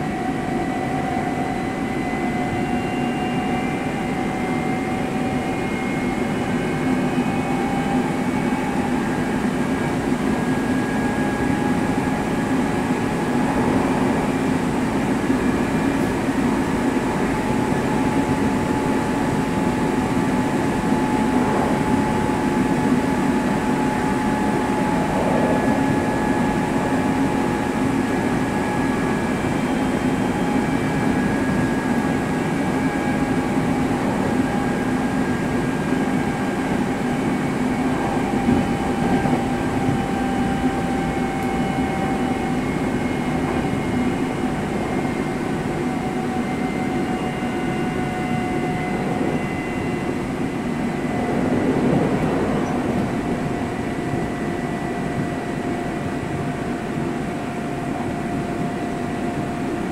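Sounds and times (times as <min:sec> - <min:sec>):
train wheel and track rumble: 0:00.0 - 0:59.9.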